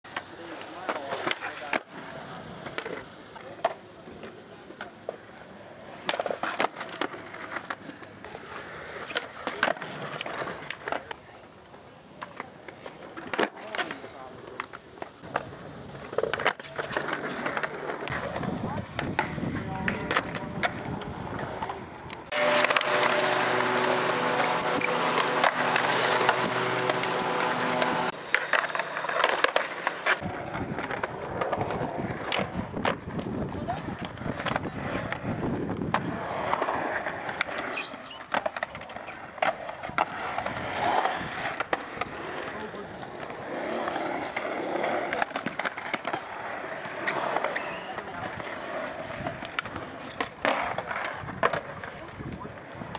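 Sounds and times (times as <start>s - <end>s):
skateboards rolling on concrete: 0.0s - 52.9s
skateboard clacks: 0.1s - 52.9s.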